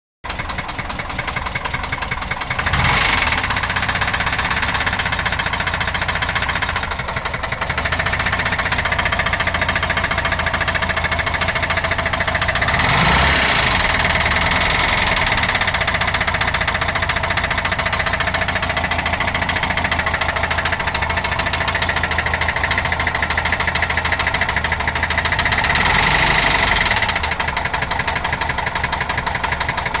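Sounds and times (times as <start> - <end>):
car engine idling and revving: 0.3 - 30.0.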